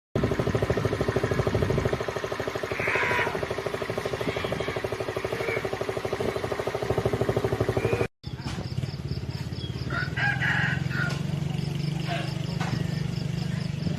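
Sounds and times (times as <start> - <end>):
small engine idling: 0.2 - 13.9.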